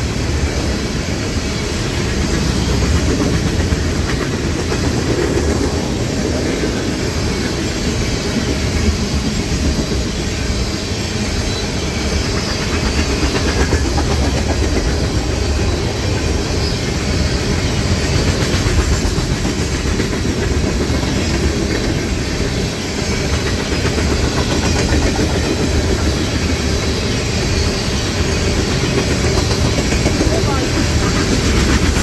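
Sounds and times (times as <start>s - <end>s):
freight train cars rolling past: 0.0s - 32.0s.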